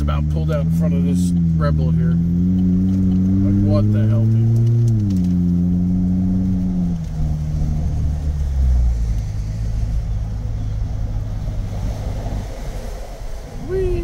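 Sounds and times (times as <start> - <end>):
road and wind noise: 0.0 - 14.0
truck exhaust rumble: 0.0 - 14.0.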